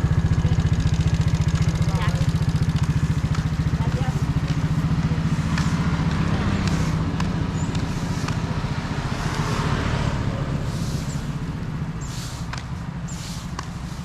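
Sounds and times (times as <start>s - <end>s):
street noise: 0.0s - 14.0s
vehicle engine running: 0.0s - 14.0s.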